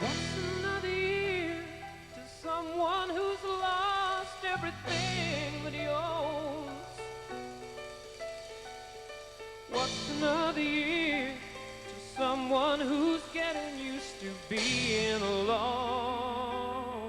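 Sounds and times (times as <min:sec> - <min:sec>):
sustained backing chords: 0:00.0 - 0:17.0.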